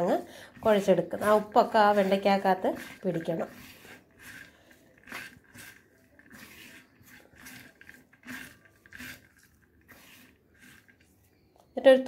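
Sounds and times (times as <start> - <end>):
wet okra slices rustling and squishing: 0.0 - 11.8.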